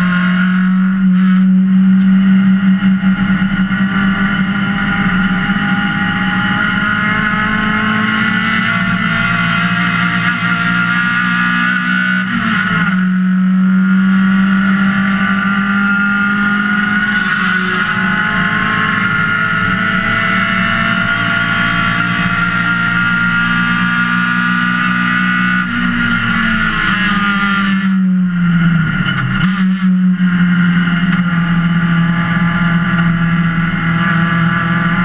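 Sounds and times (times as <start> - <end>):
race car engine at high revs: 0.0 - 35.0.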